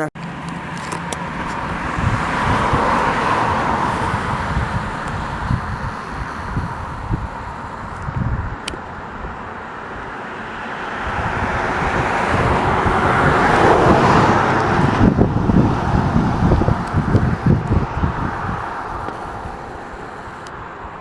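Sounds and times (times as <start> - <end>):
vehicle driving past: 0.2 - 20.9
wind buffeting microphone: 0.2 - 21.0.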